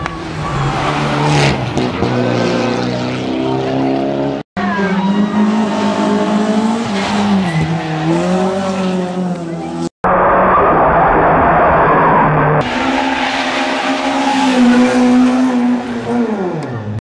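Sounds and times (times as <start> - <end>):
rally car engine revving: 0.0 - 9.9, 12.3 - 17.0.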